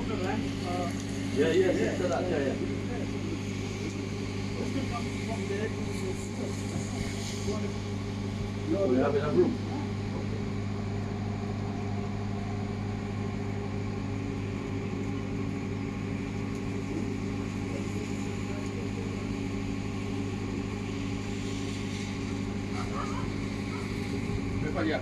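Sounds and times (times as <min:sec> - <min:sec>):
ship machinery humming: 0:00.0 - 0:25.0.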